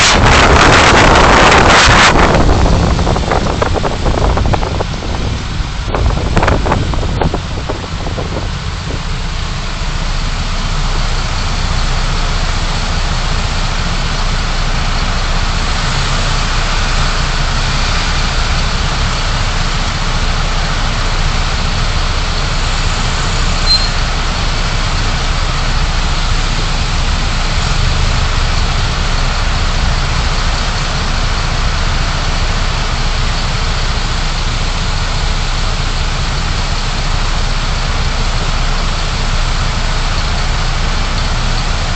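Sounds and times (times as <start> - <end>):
car engine and road hum: 0.0 - 41.9.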